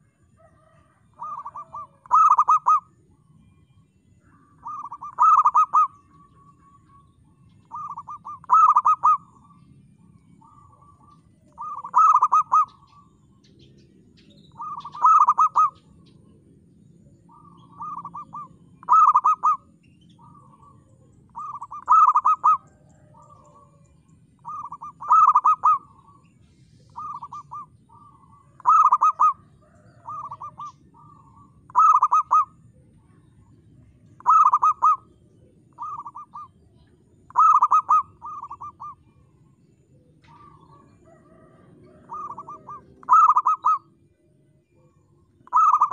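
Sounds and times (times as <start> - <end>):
dove cooing: 0.0 - 3.4, 4.3 - 9.7, 10.4 - 16.3, 17.0 - 45.9.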